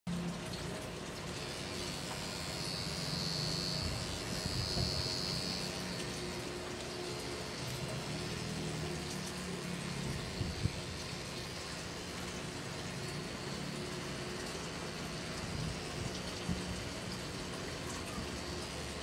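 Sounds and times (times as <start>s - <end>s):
tattoo machine buzzing: 1.2s - 19.0s
thin high whine: 1.3s - 19.0s.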